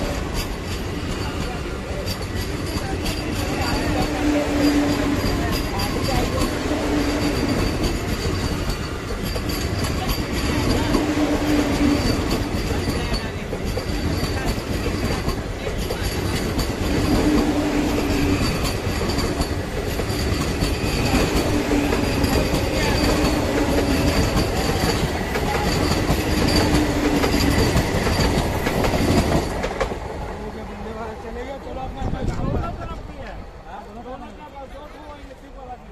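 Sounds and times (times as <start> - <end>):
train wheels on rails: 0.0 - 35.9.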